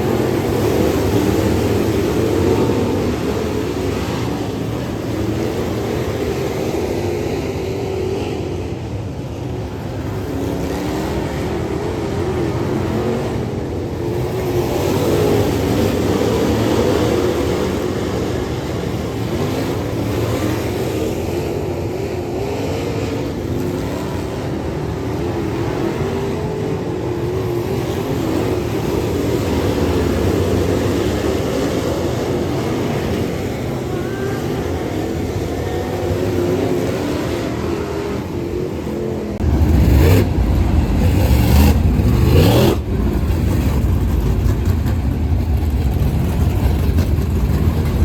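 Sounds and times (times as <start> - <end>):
race car engines at speed: 0.0 - 48.0.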